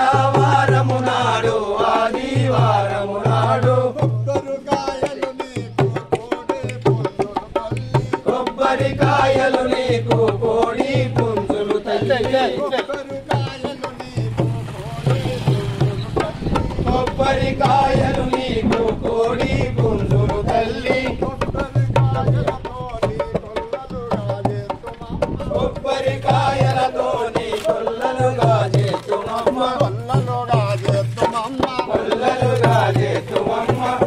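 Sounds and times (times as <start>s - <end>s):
barrel drum beating fast rhythm: 0.0s - 34.0s
men singing in chorus: 0.0s - 34.0s.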